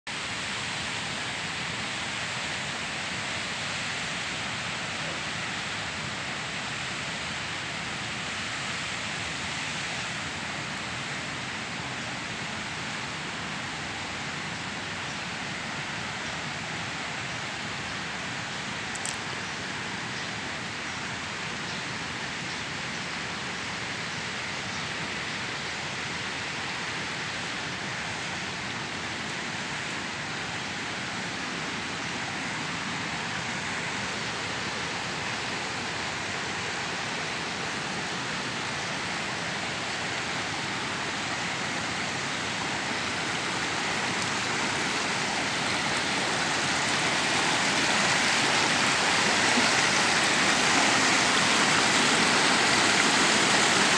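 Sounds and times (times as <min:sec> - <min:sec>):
mountain stream rushing over rocks: 0:00.1 - 0:53.9.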